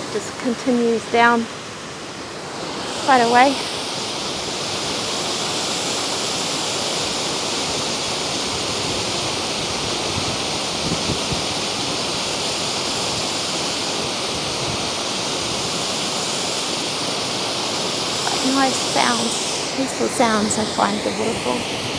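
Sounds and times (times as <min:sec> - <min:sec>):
waterfall rushing and splashing: 0:00.0 - 0:21.9.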